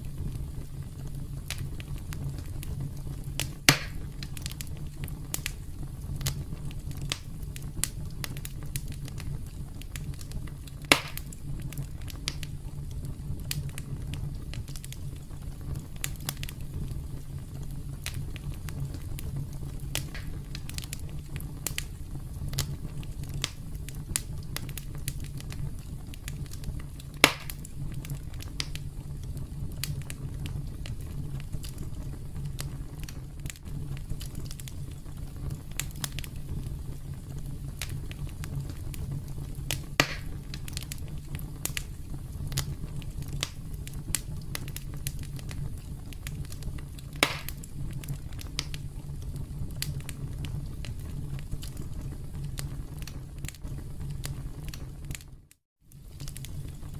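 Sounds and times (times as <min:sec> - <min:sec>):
campfire crackling and popping: 0:00.0 - 0:56.9
low fire rumble: 0:00.0 - 0:56.9.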